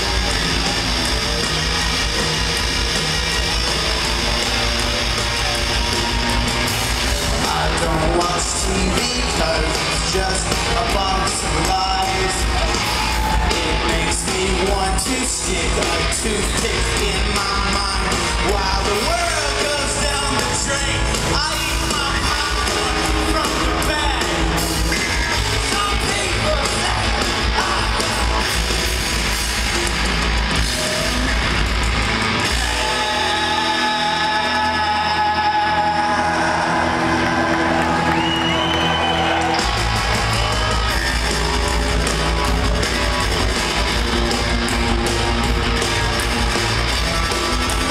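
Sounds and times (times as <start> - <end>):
bass guitar: 0.0 - 47.9
drums: 0.0 - 47.9
electric guitars: 0.0 - 47.9.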